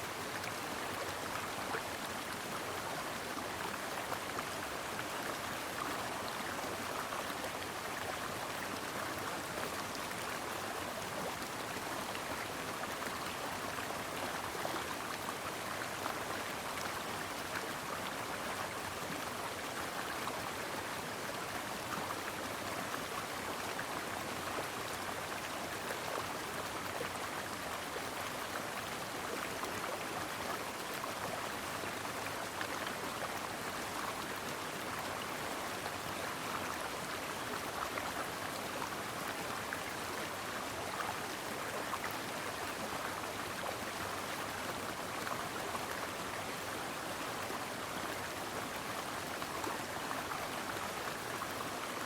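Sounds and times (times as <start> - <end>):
stream water flowing over rocks: 0.0 - 52.0.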